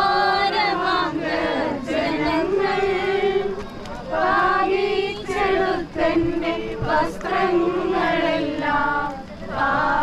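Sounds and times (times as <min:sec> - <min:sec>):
voices singing a hymn: 0:00.0 - 0:10.0.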